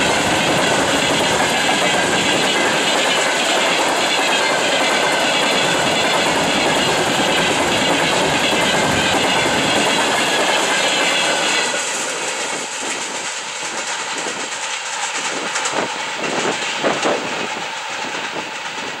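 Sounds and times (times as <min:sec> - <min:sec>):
distant train rumble: 0:00.0 - 0:19.0
train wheels clattering over rails: 0:00.0 - 0:19.0.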